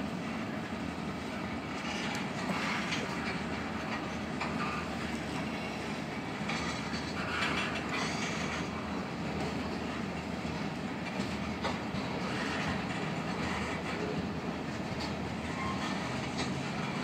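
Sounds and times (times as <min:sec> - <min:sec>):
train clatter: 0:00.0 - 0:17.0
train wheels rumbling on rail: 0:00.0 - 0:17.0.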